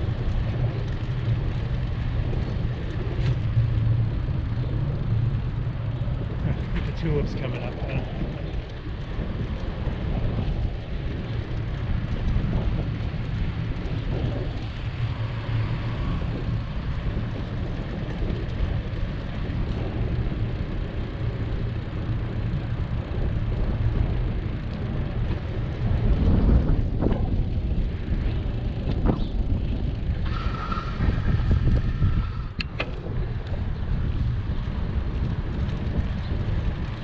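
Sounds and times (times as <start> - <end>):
tyres rolling on asphalt: 0.0 - 37.0
wind buffeting microphone: 0.0 - 37.0.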